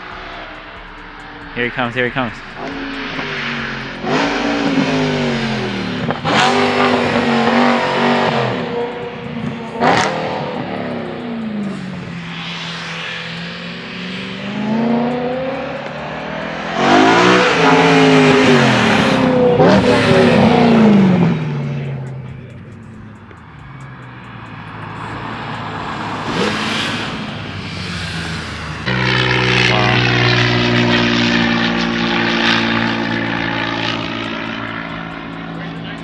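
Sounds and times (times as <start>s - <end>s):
sports car engine revving past: 0.0s - 36.0s.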